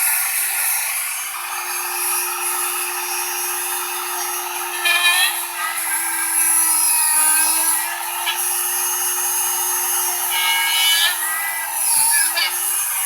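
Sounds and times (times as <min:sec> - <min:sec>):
electric drill whining: 0:00.0 - 0:13.0.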